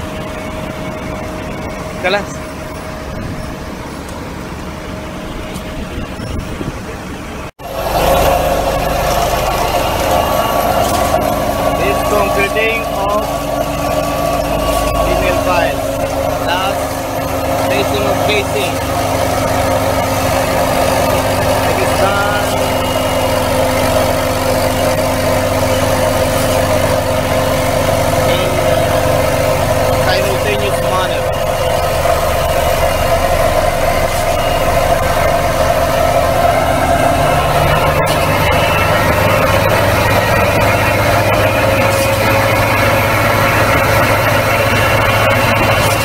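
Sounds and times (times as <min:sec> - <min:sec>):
piling rig engine drone: 0:00.0 - 0:46.0
vibro hammer low rumble: 0:00.0 - 0:46.0.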